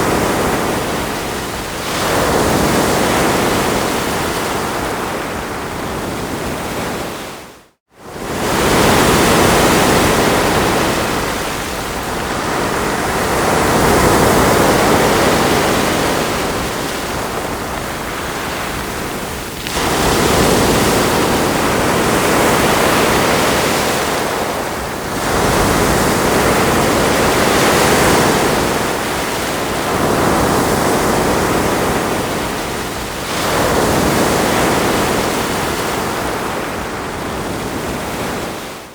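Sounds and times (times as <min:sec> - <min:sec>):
ocean waves washing on shore: 0:00.0 - 0:38.9.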